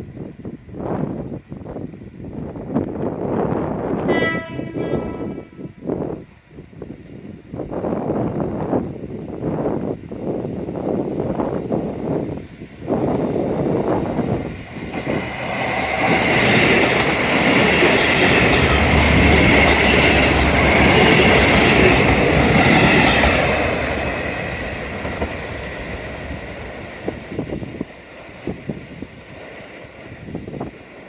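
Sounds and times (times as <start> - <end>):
diesel train passing: 0.0 - 31.0.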